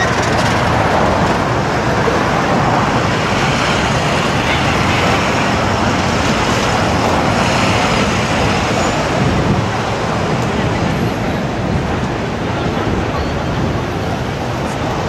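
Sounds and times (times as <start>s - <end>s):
cars and trucks driving past: 0.0s - 15.0s.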